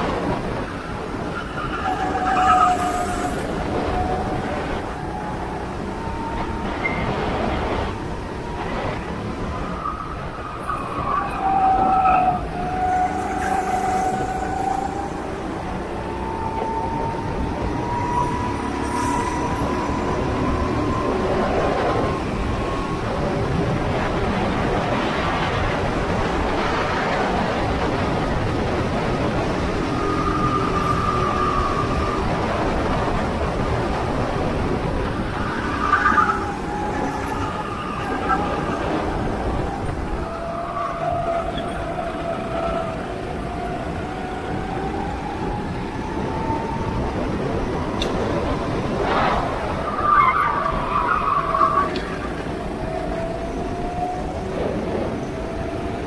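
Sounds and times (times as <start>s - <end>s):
go-kart engines whining: 0.0s - 56.0s.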